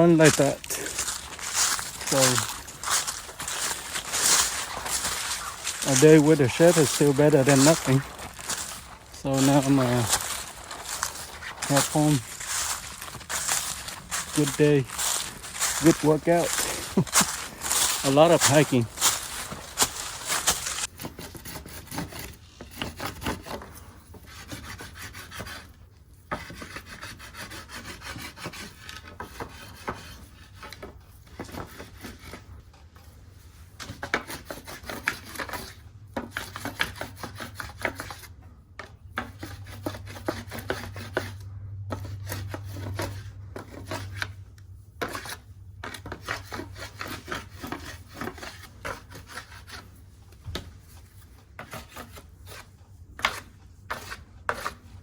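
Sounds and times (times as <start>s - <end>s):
rubbing and scraping on antler: 0.0s - 55.0s.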